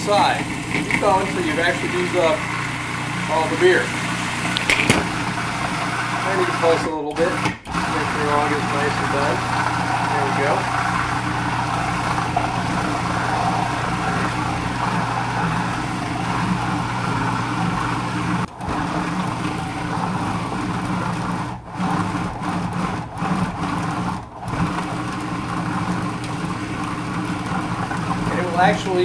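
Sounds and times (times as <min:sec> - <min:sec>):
food processor motor running: 0:00.0 - 0:29.0.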